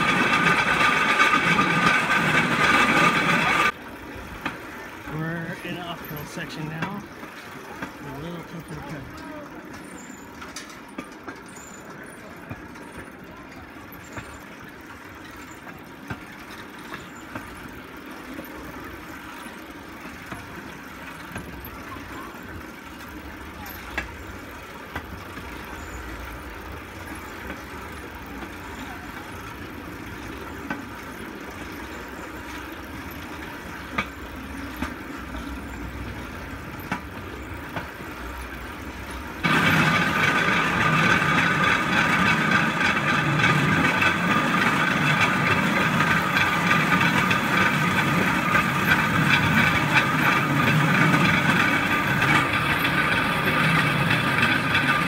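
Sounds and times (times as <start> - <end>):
steel wheels rolling on rail track: 0.0 - 55.0.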